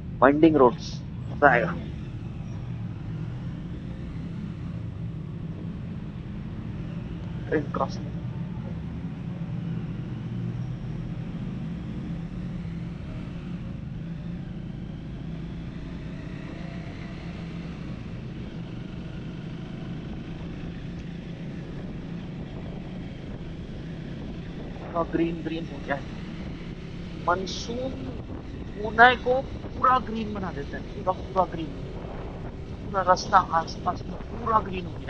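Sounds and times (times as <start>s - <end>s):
motorcycle engine cruising: 0.0s - 35.0s
road and wind noise: 0.0s - 35.0s.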